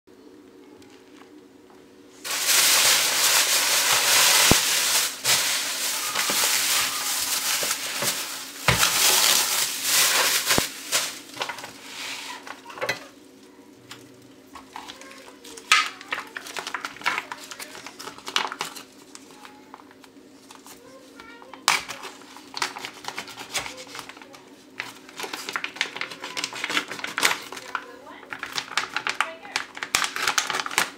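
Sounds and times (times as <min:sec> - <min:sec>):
plastic bag rustling and crinkling: 0:02.2 - 0:12.7, 0:14.6 - 0:30.9
plastic being handled: 0:02.2 - 0:12.7, 0:14.6 - 0:30.9.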